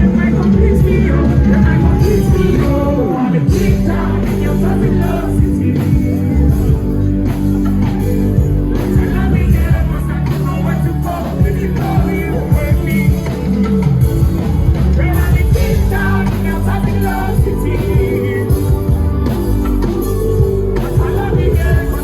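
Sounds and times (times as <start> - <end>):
live concert music with singing: 0.0 - 22.0.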